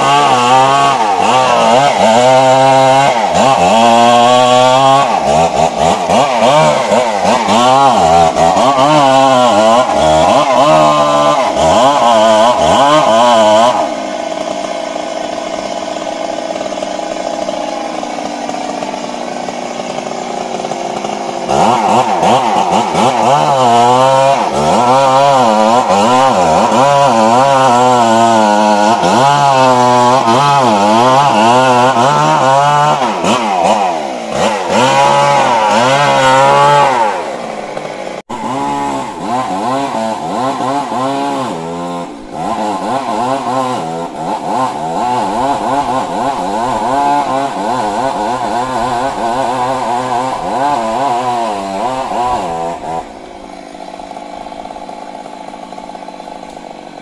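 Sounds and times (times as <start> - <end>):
chainsaw cutting tree trunk: 0.0 - 57.0.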